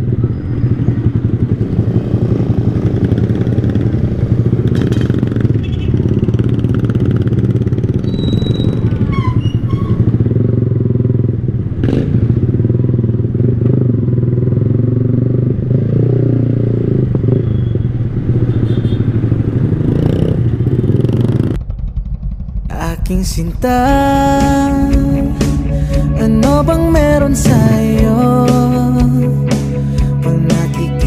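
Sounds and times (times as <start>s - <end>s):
motorcycle engine running: 0.0s - 30.7s.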